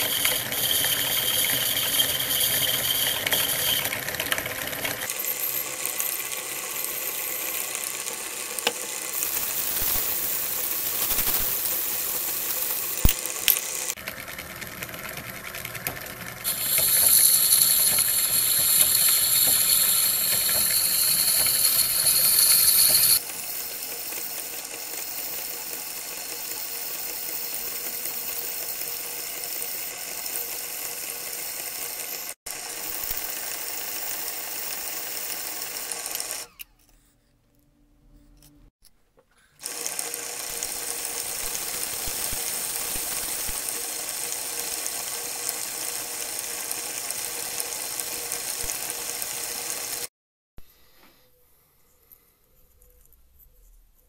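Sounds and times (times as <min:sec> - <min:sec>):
grinding spindle running: 0:00.0 - 0:14.4, 0:15.8 - 0:36.5, 0:39.6 - 0:50.1.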